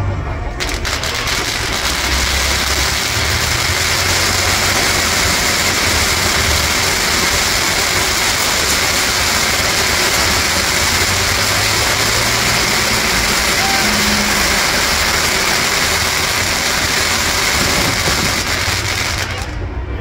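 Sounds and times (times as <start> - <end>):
fireworks rushing hiss: 0.6 - 19.6.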